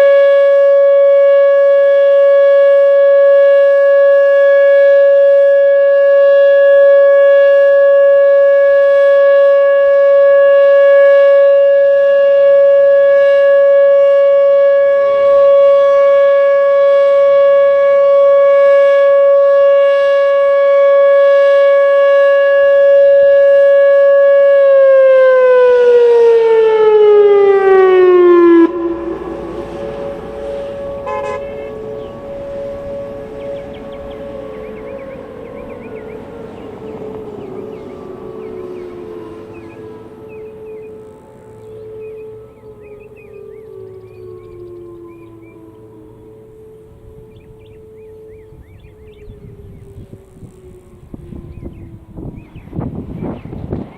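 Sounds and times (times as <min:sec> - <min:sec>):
warning siren steady tone: 0:00.0 - 0:53.9.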